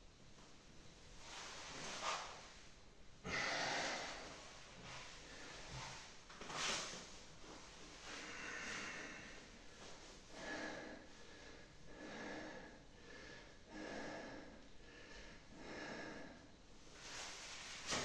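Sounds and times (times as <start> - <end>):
man breathing steadily: 1.1 - 18.0.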